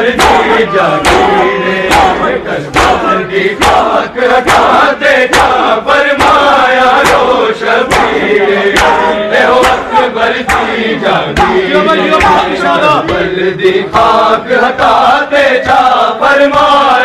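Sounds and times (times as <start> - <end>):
chest-beating slaps: 0.0 - 17.0
men chanting together: 0.0 - 17.0.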